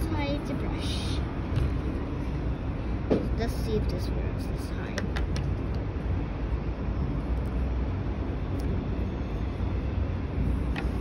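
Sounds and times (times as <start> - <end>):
low background rumble with hiss: 0.0 - 11.0.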